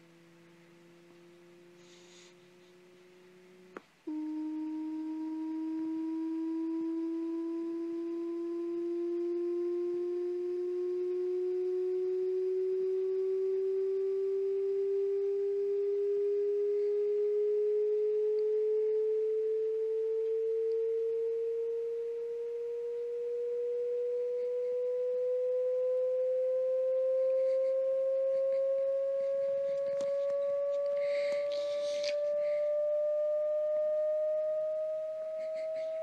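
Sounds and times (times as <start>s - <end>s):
sine wave test tone sweeping upward: 0.0s - 36.0s.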